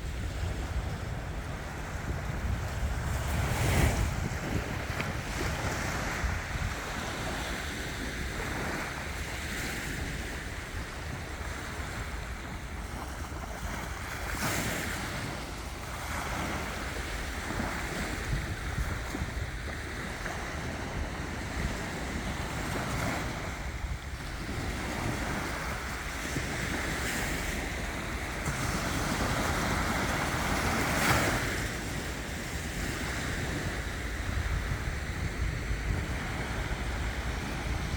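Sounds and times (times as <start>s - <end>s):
sea waves washing on shore: 0.0s - 37.9s
wind on microphone: 0.0s - 37.9s.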